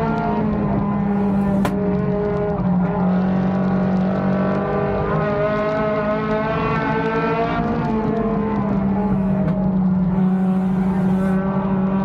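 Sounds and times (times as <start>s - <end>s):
race car engine under load: 0.0s - 12.0s.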